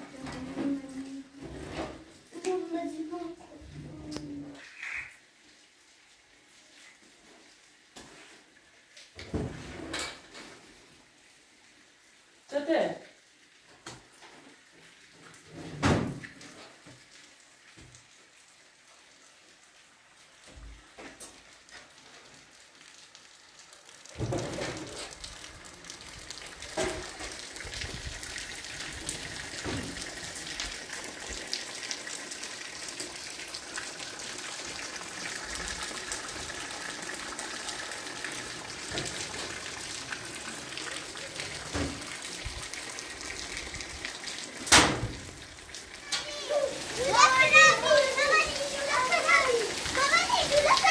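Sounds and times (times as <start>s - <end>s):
steady rain falling: 0.0s - 50.9s
water running: 0.0s - 50.9s.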